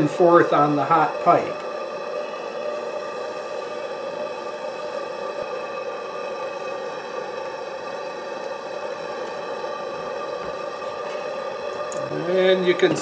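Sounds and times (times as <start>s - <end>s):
torch flame rushing into pipe: 0.0s - 13.0s.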